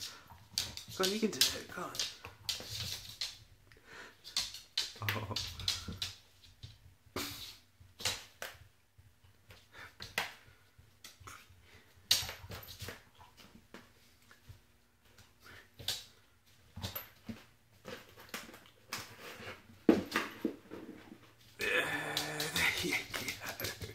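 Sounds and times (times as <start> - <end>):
dog claws clicking on floor: 0.0 - 3.5, 4.2 - 8.7, 9.4 - 20.6, 22.2 - 23.9.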